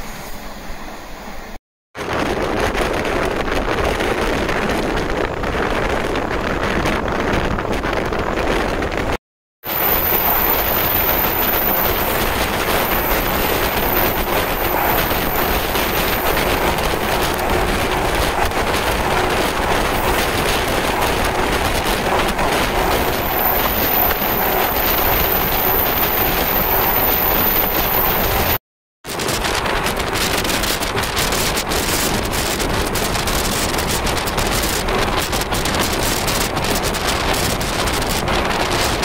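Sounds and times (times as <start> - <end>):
electric train rumbling at speed: 0.0 - 39.0.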